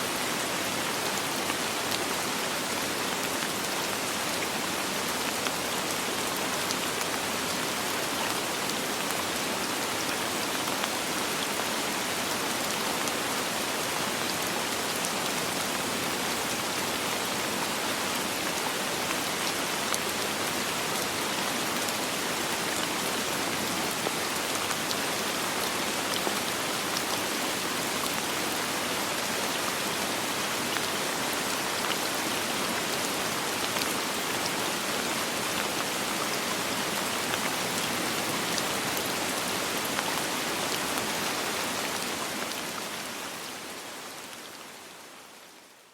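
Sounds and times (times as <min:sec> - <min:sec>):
soft rain falling: 0:00.0 - 0:45.9.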